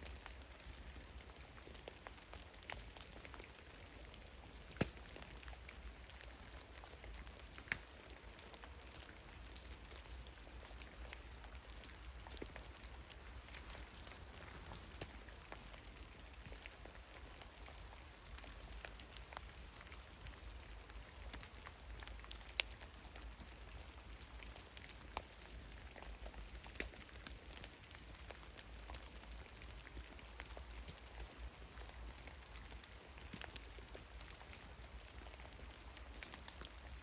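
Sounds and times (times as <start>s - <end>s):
water drops ticking on snow: 0.0s - 37.0s.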